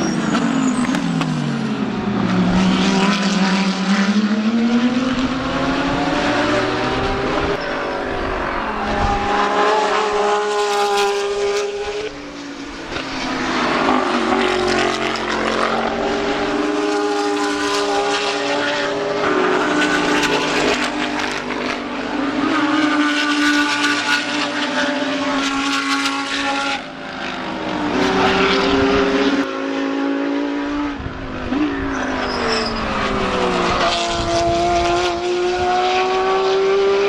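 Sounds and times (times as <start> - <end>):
race cars passing at speed: 0.0 - 37.0.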